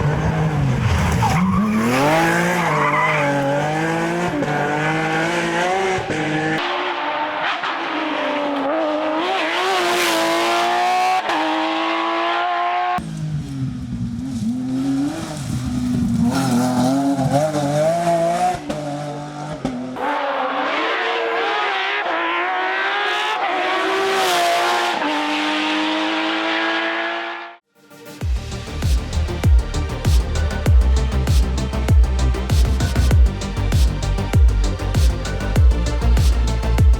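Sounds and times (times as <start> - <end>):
rally car engines at full throttle: 0.0 - 27.6, 28.3 - 36.9.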